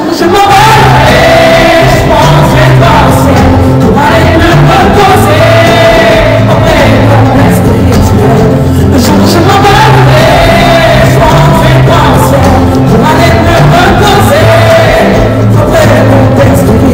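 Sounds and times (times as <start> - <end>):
band accompaniment with bass line: 0.0 - 16.9
man singing into microphone: 0.0 - 16.9.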